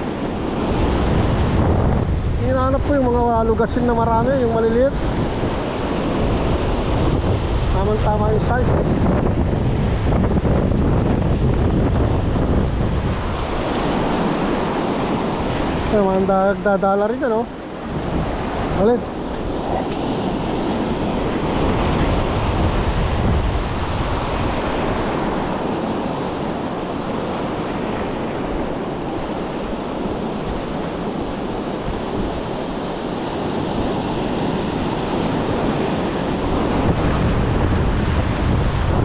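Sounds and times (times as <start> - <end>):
wind across microphone: 0.0 - 16.7, 17.5 - 39.0
sea water washing: 0.0 - 39.0.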